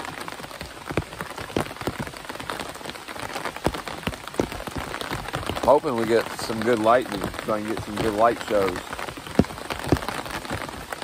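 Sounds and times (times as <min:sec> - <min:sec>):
heavy rain on tent fly: 0:00.0 - 0:11.0.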